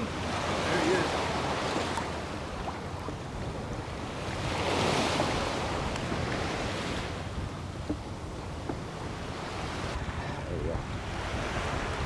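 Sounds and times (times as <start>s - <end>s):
water lapping and sloshing: 0.0s - 12.0s
wind buffeting microphone: 0.0s - 12.0s.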